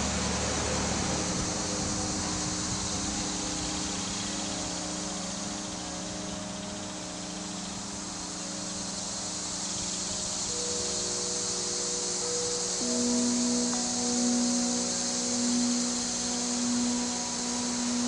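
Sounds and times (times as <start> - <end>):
rushing hiss: 0.0 - 18.0
sustained low drone tones: 0.0 - 18.0.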